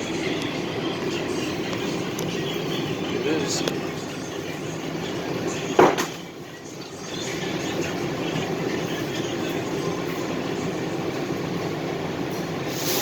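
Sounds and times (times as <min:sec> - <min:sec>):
light rail train rumble: 0:00.0 - 0:13.0.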